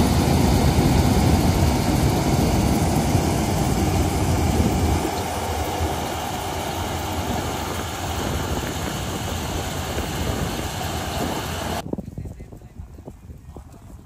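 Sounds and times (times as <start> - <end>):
combine harvester running: 0.0 - 11.8.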